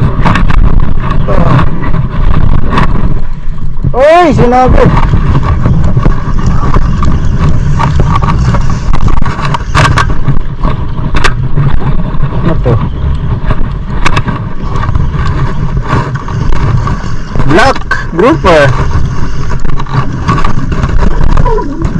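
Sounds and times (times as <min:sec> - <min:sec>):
boat engine rumbling: 0:00.0 - 0:21.9.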